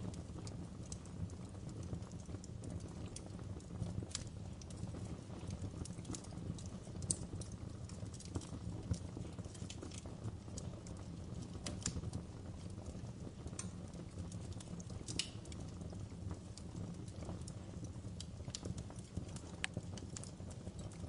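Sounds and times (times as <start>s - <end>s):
fire crackling and popping: 0.0s - 21.0s
low fire rumble: 0.0s - 21.0s.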